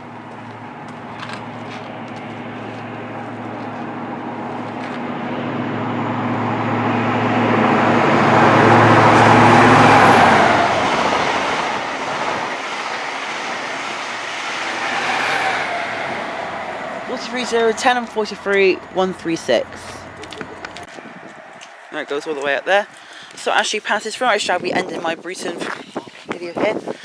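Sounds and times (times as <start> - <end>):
diesel train passing: 0.0 - 24.6.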